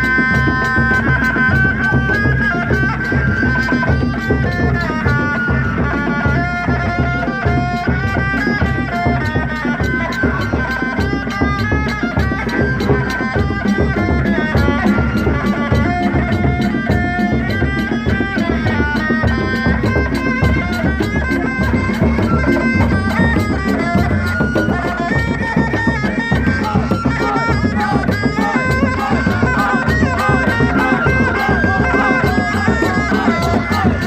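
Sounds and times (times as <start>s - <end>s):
frame drums beating: 0.0s - 34.0s
reed pipe melody: 0.0s - 34.0s.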